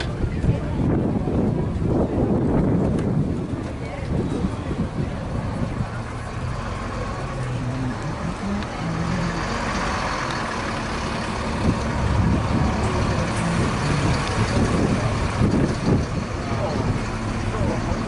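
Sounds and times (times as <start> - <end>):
heavy vehicle engine rumbling: 0.0 - 18.0.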